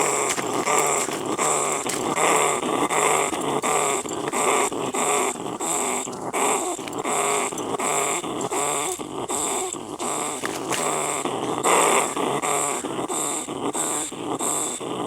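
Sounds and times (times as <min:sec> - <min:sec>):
angry rat call: 0:00.0 - 0:15.0.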